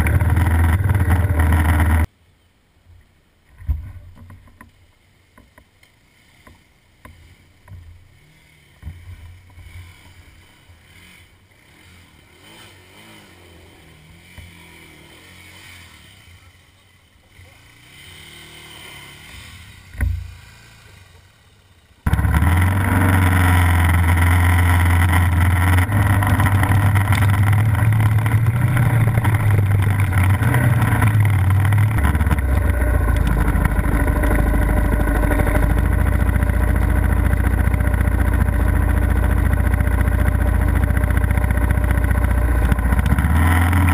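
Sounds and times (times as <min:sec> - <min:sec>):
motorcycle engine running: 0:00.0 - 0:02.1, 0:06.5 - 0:43.9.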